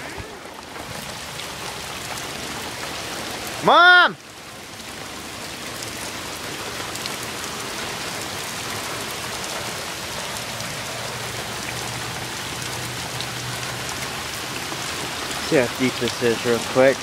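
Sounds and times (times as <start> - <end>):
heavy rain on water: 0.0 - 17.0.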